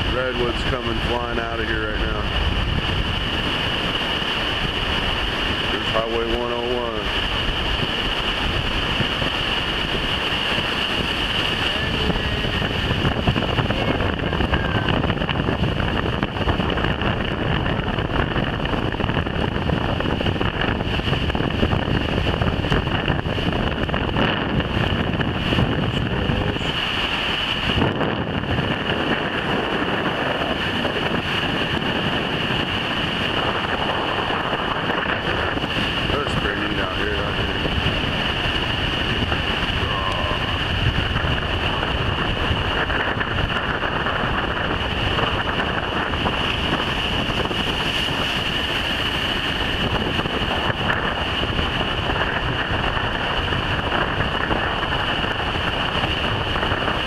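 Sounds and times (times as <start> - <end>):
breaking surf: 0.0 - 57.0
rushing floodwater: 0.0 - 57.0
wind buffeting microphone: 0.0 - 57.0.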